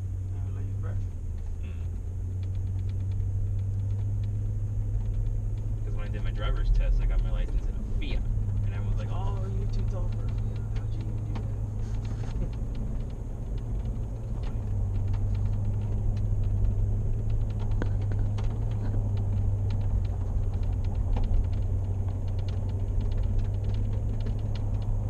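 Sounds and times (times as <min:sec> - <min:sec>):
small irregular clicks and ticks: 0:00.0 - 0:25.0
truck engine drone inside cab: 0:00.0 - 0:25.0.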